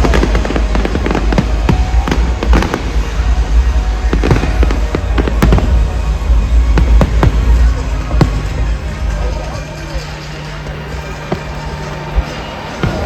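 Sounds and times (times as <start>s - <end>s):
fireworks bangs and crackles: 0.0s - 13.0s
low rumble: 0.0s - 13.0s.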